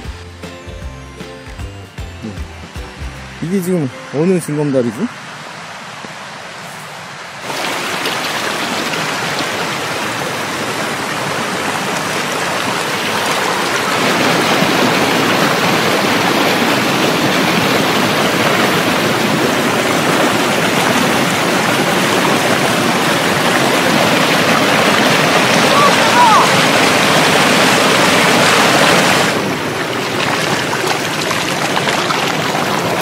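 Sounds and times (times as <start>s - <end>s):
stream rushing over rocks: 3.4s - 33.0s.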